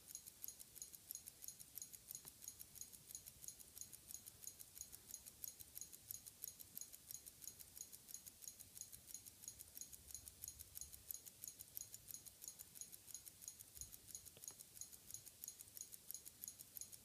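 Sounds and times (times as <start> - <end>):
wristwatch ticking: 0.0 - 17.0.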